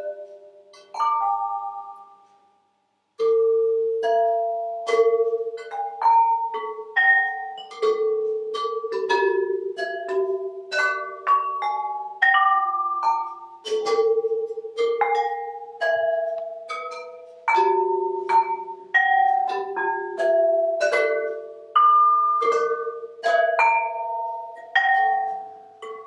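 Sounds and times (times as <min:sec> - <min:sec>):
ceramic bells struck with mallets: 0:00.0 - 0:26.0.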